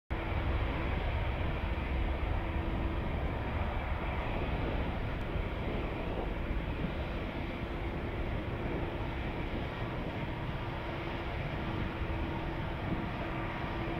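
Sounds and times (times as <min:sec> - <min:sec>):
jet engines at taxi power: 0:00.1 - 0:13.9.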